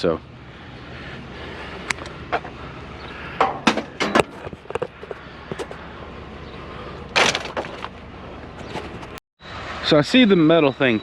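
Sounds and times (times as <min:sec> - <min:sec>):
steady background hum: 0:00.0 - 0:09.7.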